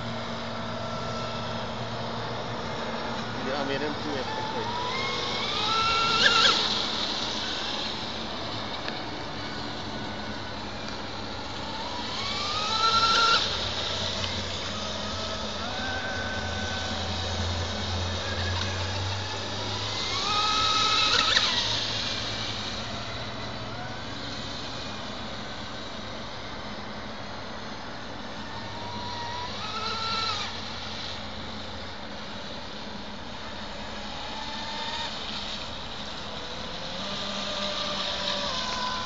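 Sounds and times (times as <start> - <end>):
model boat motor whining: 0.0 - 39.0.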